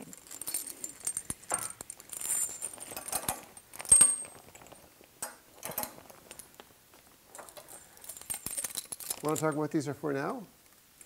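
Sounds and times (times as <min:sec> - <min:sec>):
steel springs clinking: 0:00.0 - 0:06.5, 0:07.3 - 0:09.7.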